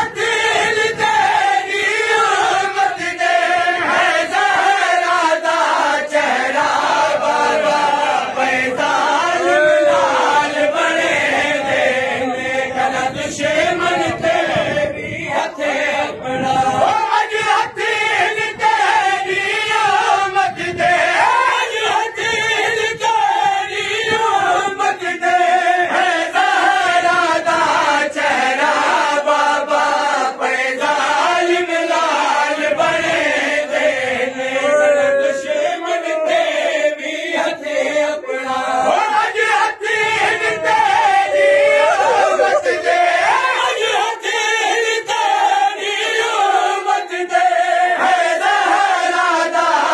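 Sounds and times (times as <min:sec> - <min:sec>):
men chanting call and response: 0:00.0 - 0:49.9.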